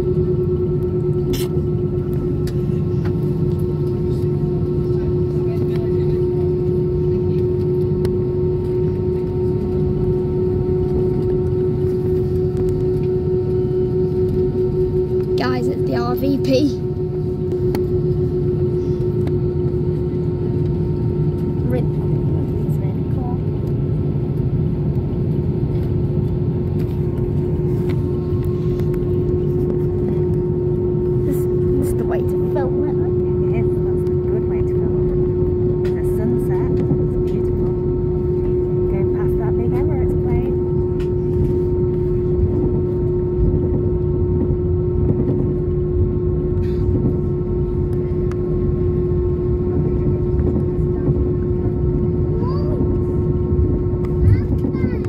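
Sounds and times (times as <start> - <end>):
aircraft cabin rumble: 0.0 - 55.0
constant hum: 0.0 - 55.0.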